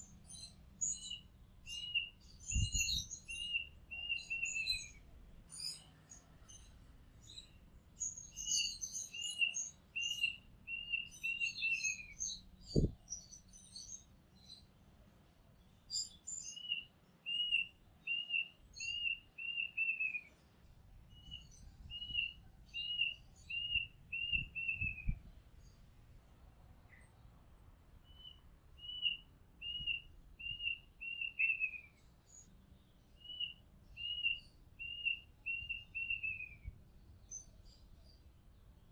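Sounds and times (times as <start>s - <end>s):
bird singing whistled notes: 0.0s - 5.9s, 7.2s - 14.6s, 15.9s - 20.3s, 21.1s - 25.7s, 28.0s - 38.2s.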